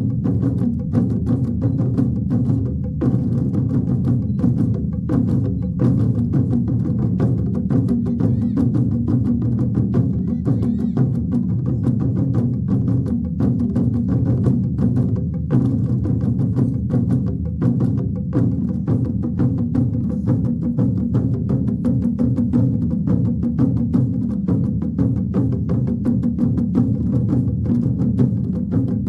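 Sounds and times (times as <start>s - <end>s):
large drums played fast: 0.0s - 29.0s.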